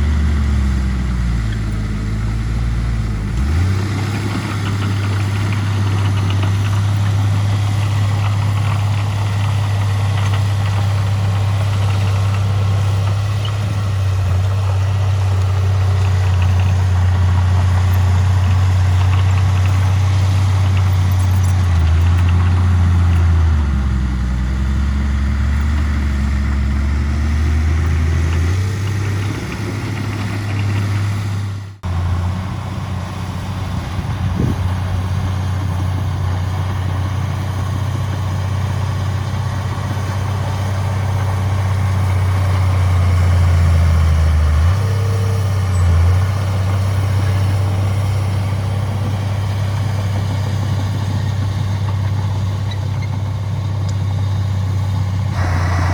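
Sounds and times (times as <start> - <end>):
heavy diesel engines humming: 0.0 - 55.9.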